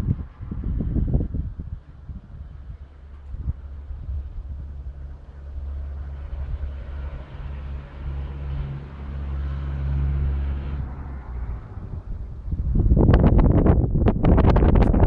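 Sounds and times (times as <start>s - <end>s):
truck engine humming: 0.0s - 14.1s
wind buffeting microphone: 0.0s - 15.0s.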